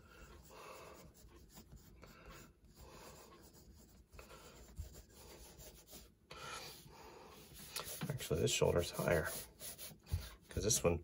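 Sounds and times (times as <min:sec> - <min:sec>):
pencil scratching on paper: 0:00.0 - 0:10.9.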